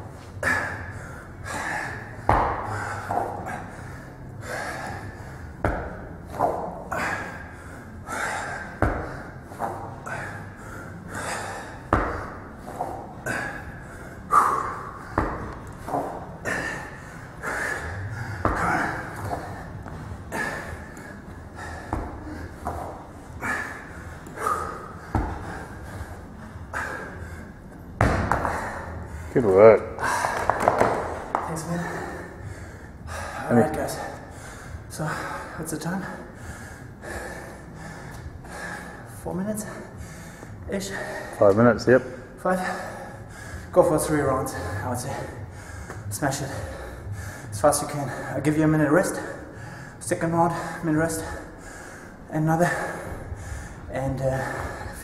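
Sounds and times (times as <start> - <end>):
man breathing heavily: 0.0 - 55.0.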